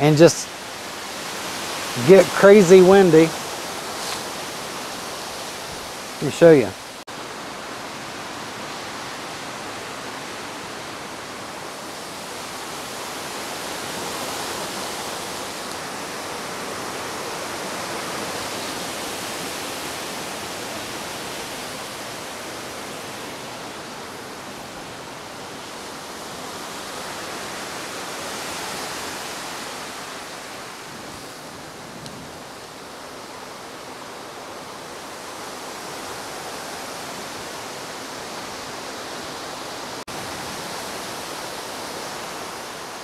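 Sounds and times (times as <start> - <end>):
wind through leafy treetops: 0.0 - 43.0.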